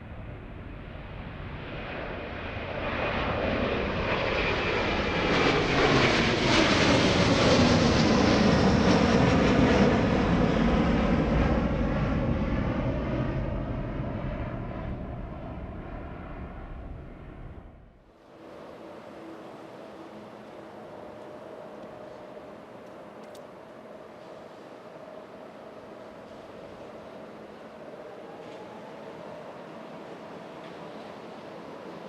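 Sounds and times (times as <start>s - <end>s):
faint high engine whine: 0.0s - 32.0s
jet airliner passing: 0.0s - 32.0s.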